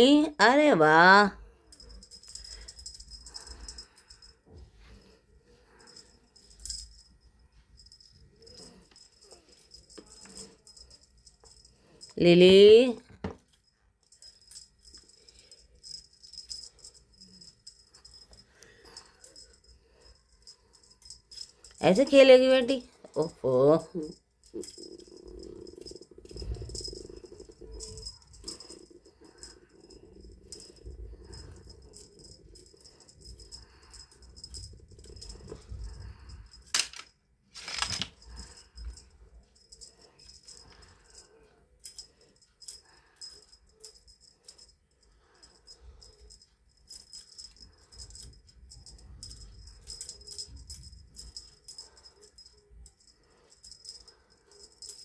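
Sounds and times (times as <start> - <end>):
rattle toy jingling: 0.0 - 5.0, 5.7 - 37.0, 37.6 - 55.0.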